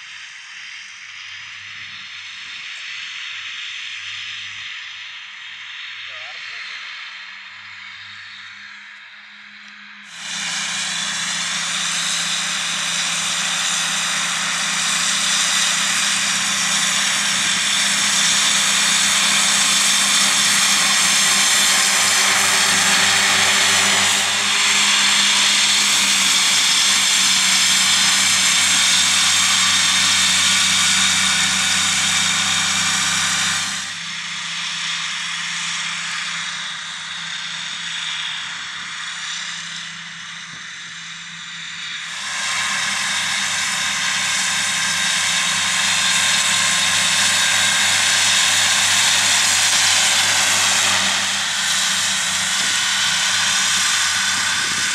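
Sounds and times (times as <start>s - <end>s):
tractor engine drone: 0.0s - 54.9s
high even whine: 4.6s - 34.5s, 38.4s - 54.9s.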